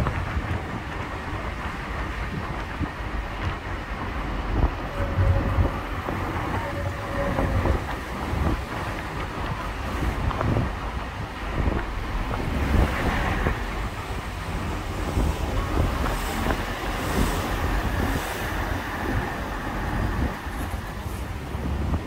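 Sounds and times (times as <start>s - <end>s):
car interior driving rumble: 0.0s - 22.0s
road and traffic noise: 0.0s - 22.0s.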